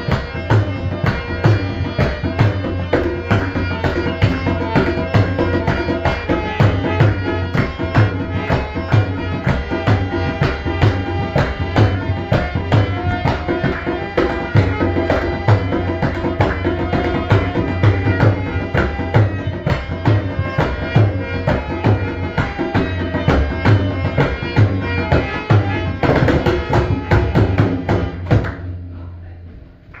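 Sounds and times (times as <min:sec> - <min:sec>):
tabla rhythm: 0:00.0 - 0:28.9.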